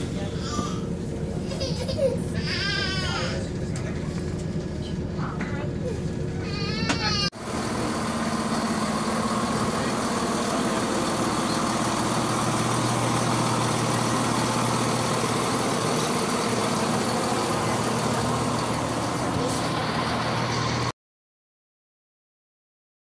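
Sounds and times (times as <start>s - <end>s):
diesel train engine hum: 0.0s - 20.9s.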